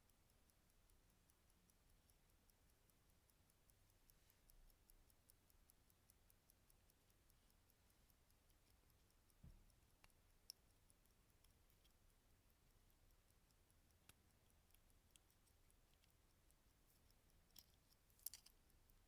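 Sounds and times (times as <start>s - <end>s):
mechanical watch ticking: 0.0s - 19.0s.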